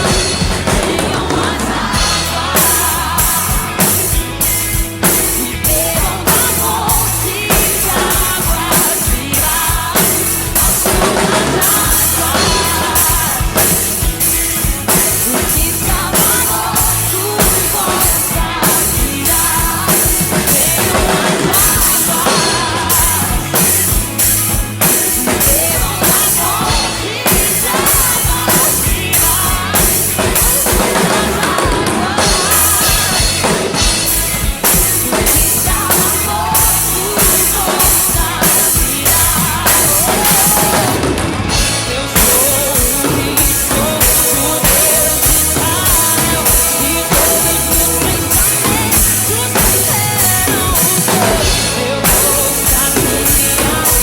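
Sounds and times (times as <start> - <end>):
drum kit playing a beat: 0.0 - 54.0
recorded worship song: 0.0 - 54.0.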